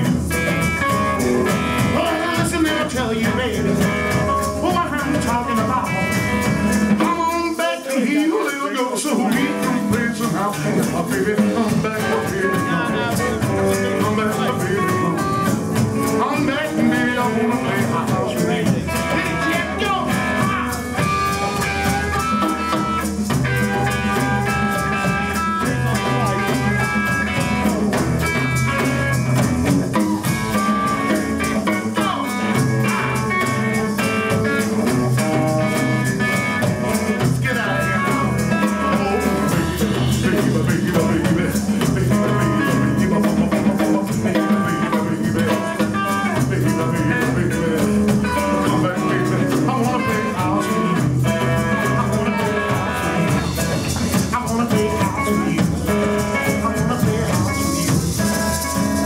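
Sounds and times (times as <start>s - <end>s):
drums: 0.0s - 59.0s
electric guitar: 0.0s - 59.0s
upright bass: 0.0s - 59.0s.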